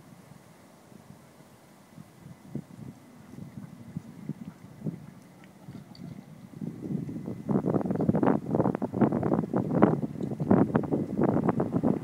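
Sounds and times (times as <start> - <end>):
wind buffeting microphone: 1.9 - 12.0.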